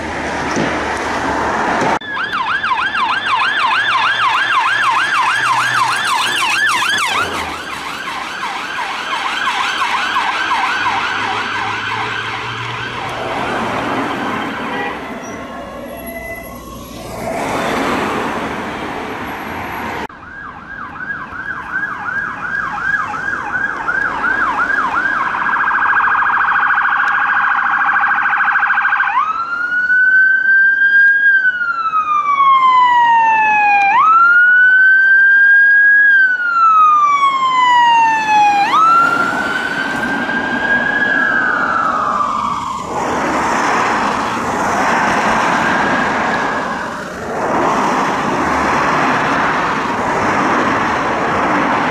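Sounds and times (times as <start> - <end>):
passing traffic: 0.0 - 51.9
ambulance siren: 2.0 - 51.9.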